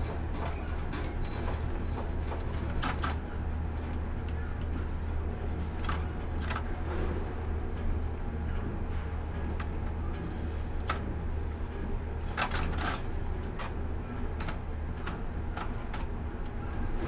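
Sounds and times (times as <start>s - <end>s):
crane machinery humming: 0.0s - 17.0s.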